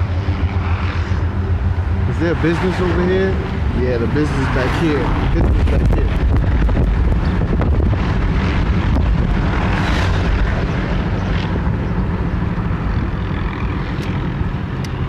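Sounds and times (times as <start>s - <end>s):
helicopter hovering: 0.0s - 15.0s
wind buffeting microphone: 0.0s - 15.0s.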